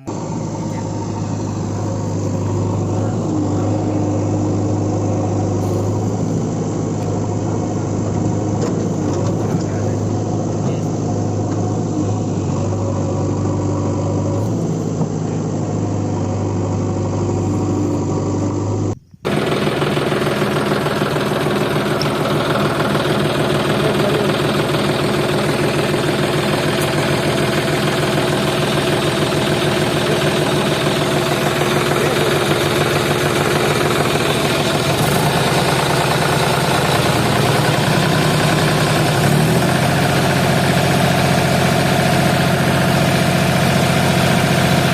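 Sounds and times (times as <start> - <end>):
heavy machine engine running: 0.0 - 44.9.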